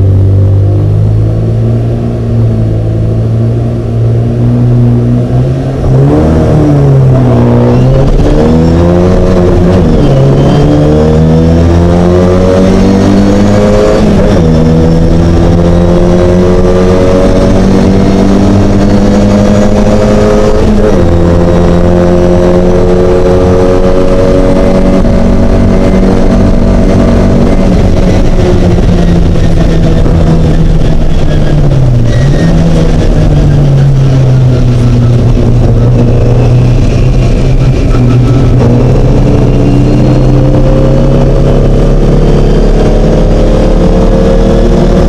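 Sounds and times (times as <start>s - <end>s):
race car engine accelerating: 0.0s - 45.0s.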